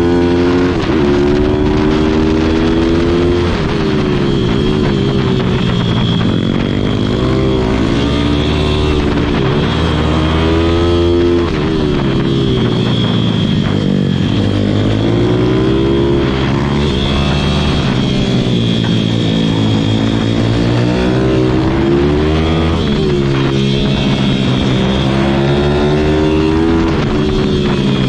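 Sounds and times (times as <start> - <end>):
pit bike engine revving: 0.0 - 28.0.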